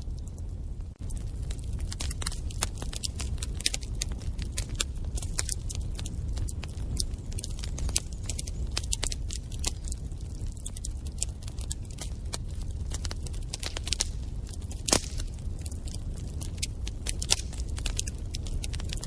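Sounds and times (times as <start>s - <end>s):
low rumble of burning fire: 0.0s - 19.0s
wood fire crackling and popping: 0.0s - 19.0s.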